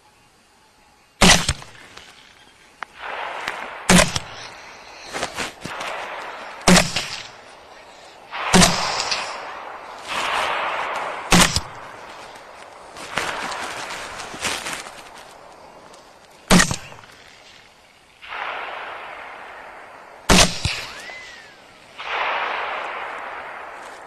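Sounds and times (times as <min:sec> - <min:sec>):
rifle shots: 0:01.2 - 0:01.8, 0:02.9 - 0:15.6, 0:16.4 - 0:17.2, 0:18.2 - 0:24.0
rushing rustling noise: 0:01.8 - 0:24.0.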